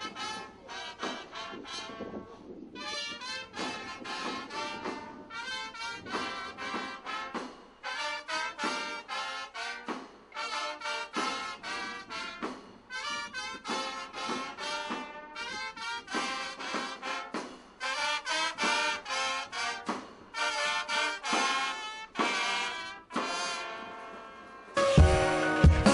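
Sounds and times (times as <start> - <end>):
brass band playing: 0.0 - 25.9.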